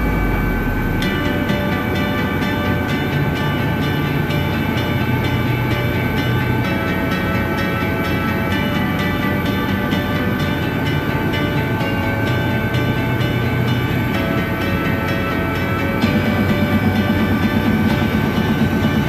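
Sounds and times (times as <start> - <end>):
helicopter engine and rotors droning: 0.0 - 19.0
high whine: 0.0 - 19.0.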